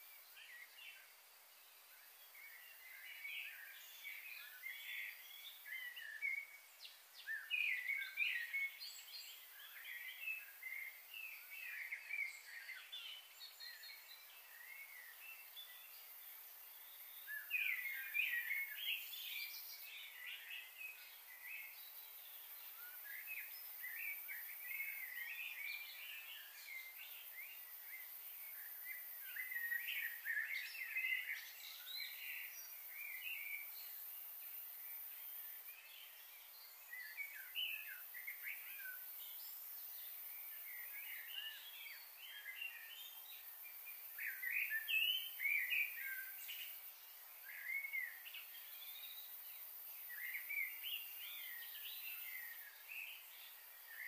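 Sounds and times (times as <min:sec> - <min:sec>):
faint outdoor hiss: 0:00.0 - 0:54.0
small birds chirping: 0:00.0 - 0:54.0.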